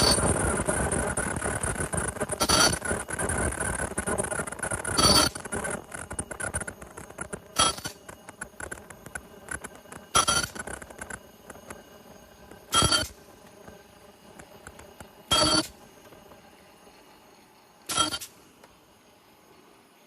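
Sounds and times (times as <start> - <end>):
machine clattering and clicking: 0.0 - 16.4
machine cycling noise bursts: 0.0 - 20.0.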